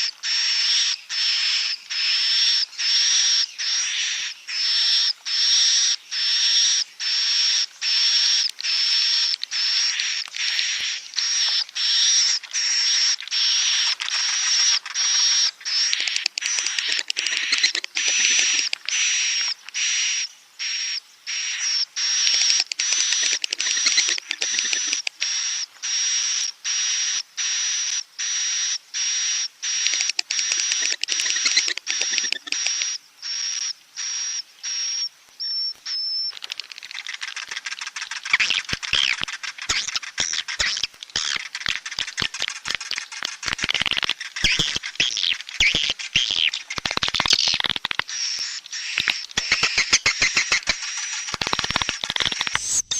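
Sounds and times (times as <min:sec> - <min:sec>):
swiftlet chirps and twittering: 0:00.0 - 0:52.9.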